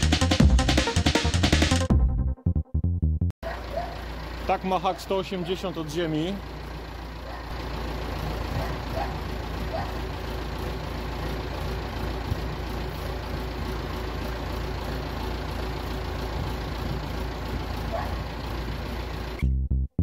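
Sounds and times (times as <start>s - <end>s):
tractor diesel engine running: 3.4s - 19.6s.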